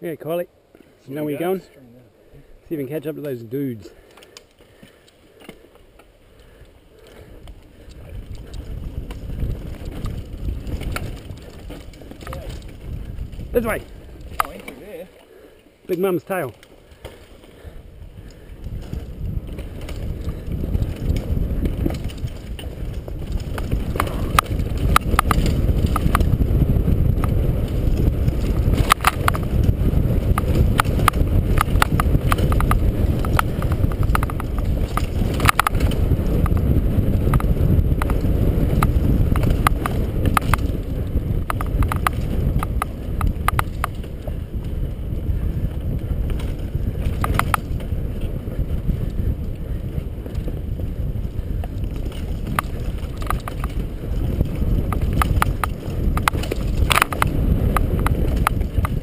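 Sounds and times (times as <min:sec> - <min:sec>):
tyres on dirt trail: 0:00.0 - 0:59.0
bike rattling over bumps: 0:04.0 - 0:15.5, 0:16.3 - 0:59.0
wind on microphone: 0:06.3 - 0:15.3, 0:16.8 - 0:59.0.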